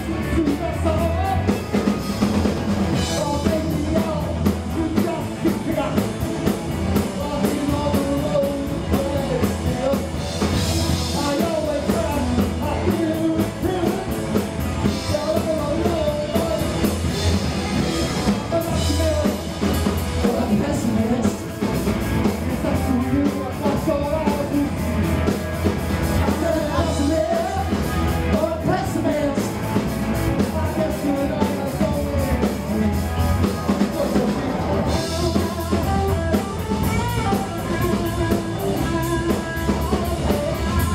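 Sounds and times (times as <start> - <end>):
drum kit beat: 0.0 - 40.9
electric guitars: 0.0 - 40.9
man singing: 0.0 - 40.9.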